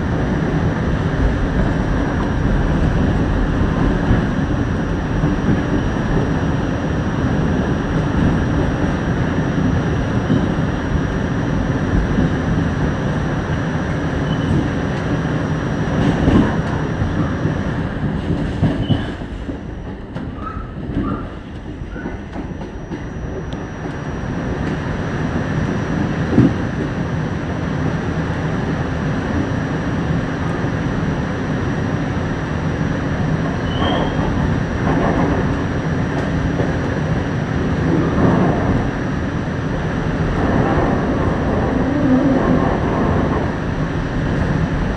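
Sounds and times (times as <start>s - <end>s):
subway car rumbling on track: 0.0s - 44.9s.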